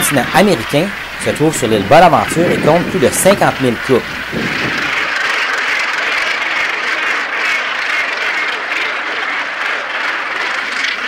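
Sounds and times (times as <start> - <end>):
gannet colony calling: 0.0 - 11.0.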